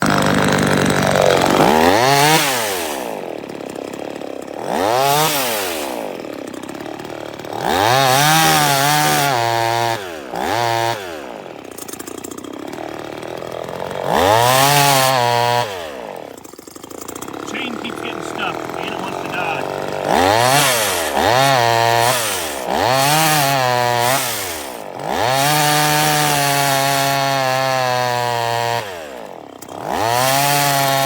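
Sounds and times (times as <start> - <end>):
chainsaw revving and idling: 0.0 - 31.0.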